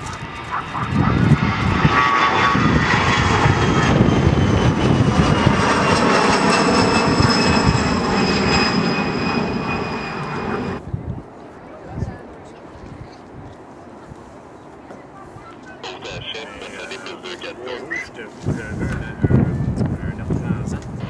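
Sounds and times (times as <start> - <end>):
airliner engine rumble and whine: 0.0 - 21.0.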